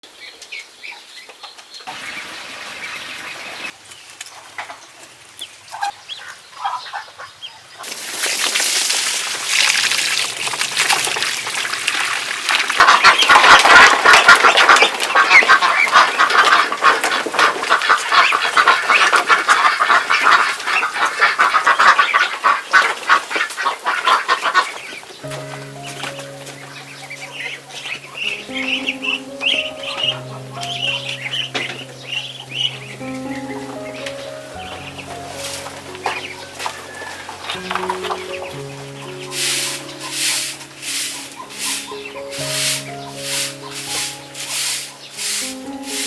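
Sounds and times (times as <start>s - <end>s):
ducks calling: 1.8s - 3.8s, 4.4s - 8.2s, 10.0s - 46.0s.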